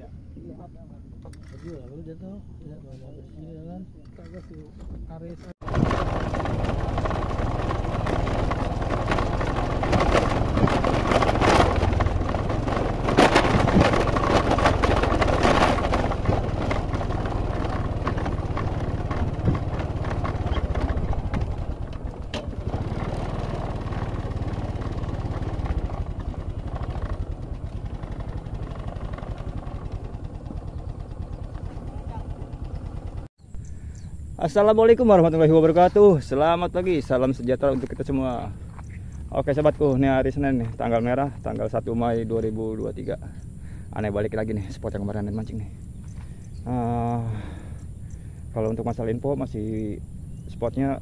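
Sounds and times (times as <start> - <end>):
vehicle engine running: 4.3 - 51.0.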